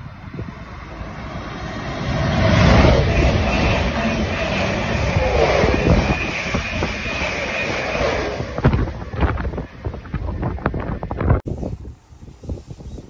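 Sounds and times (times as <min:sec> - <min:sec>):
high whine: 0:00.0 - 0:11.4
electric train passing: 0:00.0 - 0:12.5
wind buffeting microphone: 0:00.0 - 0:13.0.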